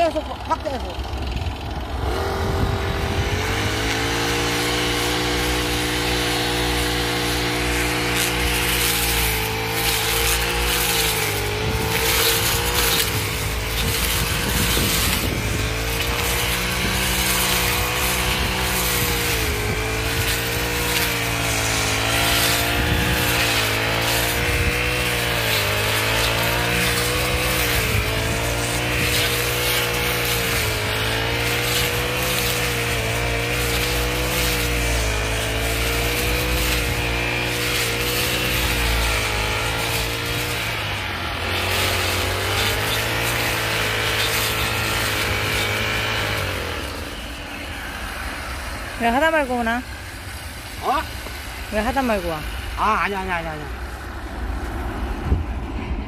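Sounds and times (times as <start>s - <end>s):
brush cutter engine running: 0.0s - 56.0s.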